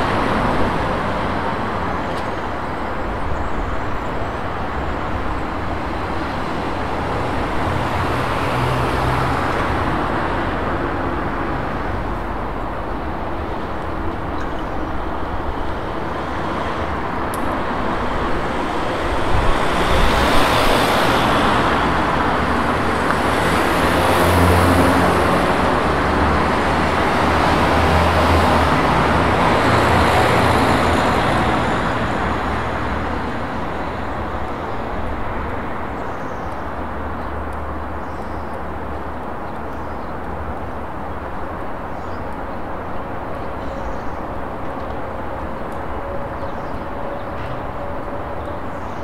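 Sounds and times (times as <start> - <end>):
passing cars: 0.0 - 49.0.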